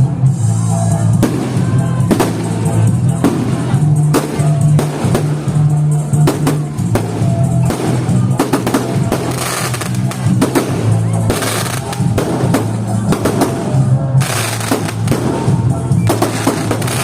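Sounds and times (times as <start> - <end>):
fireworks bangs and crackles: 0.0 - 17.0
loud music with bass and drums: 0.0 - 17.0.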